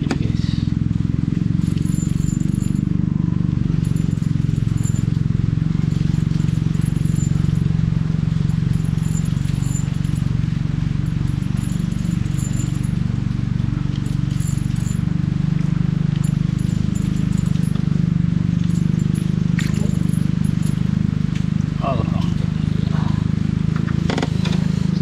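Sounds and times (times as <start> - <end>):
steady low drone: 0.0 - 25.0.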